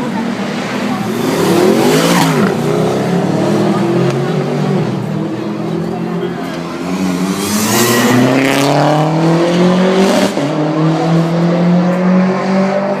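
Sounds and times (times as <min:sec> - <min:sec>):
car engine accelerating: 0:00.3 - 0:13.0.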